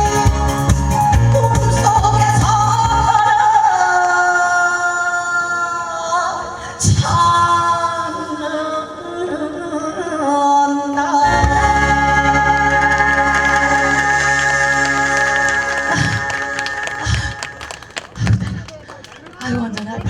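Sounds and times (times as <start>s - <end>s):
keyboard: 0.0s - 20.0s.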